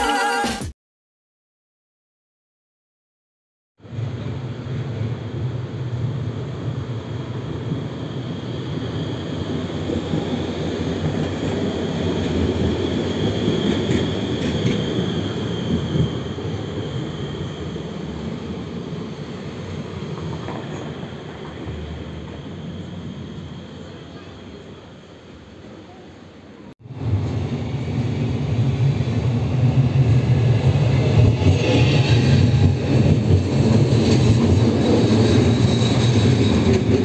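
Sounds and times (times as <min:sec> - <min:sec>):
tram wheels rumbling on rail: 0:03.8 - 0:26.0, 0:26.8 - 0:37.0.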